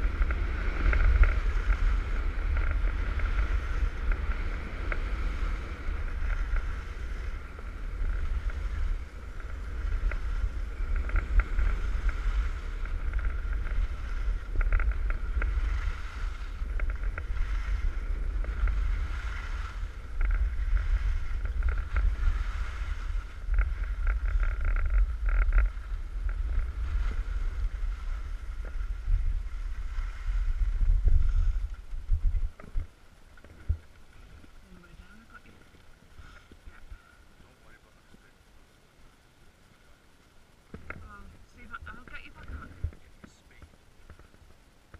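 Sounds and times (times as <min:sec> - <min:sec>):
wind buffeting microphone: 0:00.0 - 0:37.8, 0:40.4 - 0:44.9
skis scraping over snow: 0:00.0 - 0:38.3, 0:40.9 - 0:44.6.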